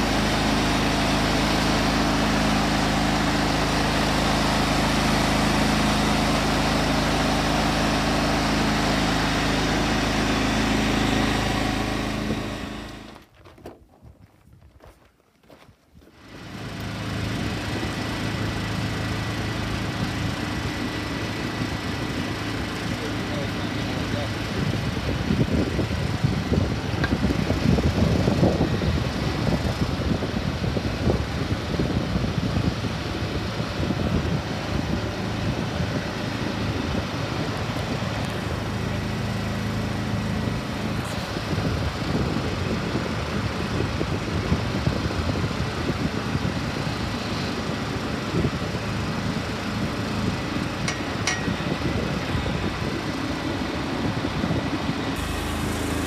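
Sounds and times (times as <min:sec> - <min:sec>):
small engine running: 0:00.0 - 0:13.3, 0:16.1 - 0:56.0.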